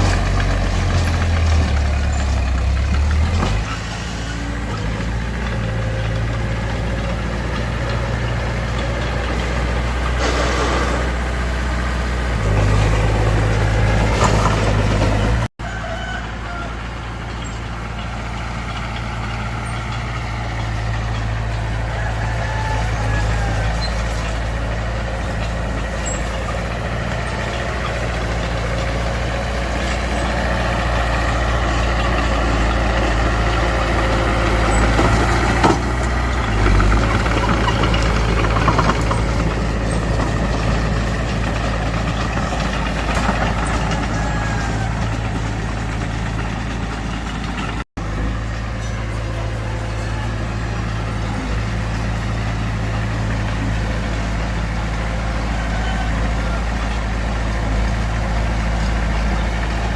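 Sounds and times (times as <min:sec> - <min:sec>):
heavy diesel engines working: 0:00.0 - 0:59.9.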